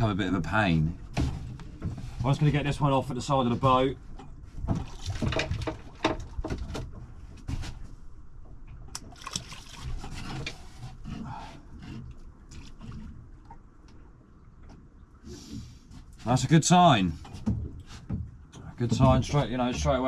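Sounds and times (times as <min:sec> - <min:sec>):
water splashing against boat: 0:00.0 - 0:20.0.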